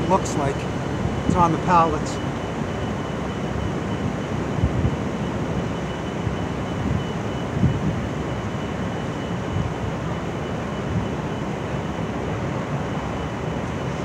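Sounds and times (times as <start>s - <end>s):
city street traffic rumble: 0.0s - 14.0s
faint high whine: 0.0s - 14.0s
heavy machinery: 0.0s - 14.0s.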